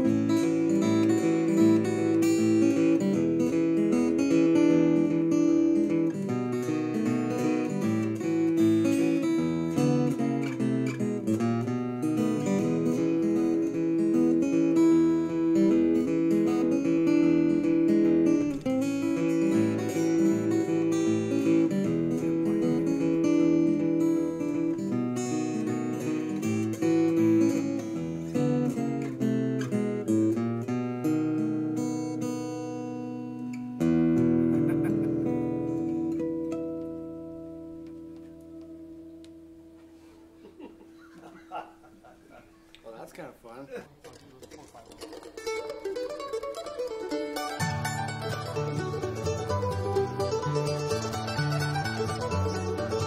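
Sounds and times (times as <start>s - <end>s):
acoustic guitar blues picking: 0.0s - 42.7s, 43.9s - 53.0s.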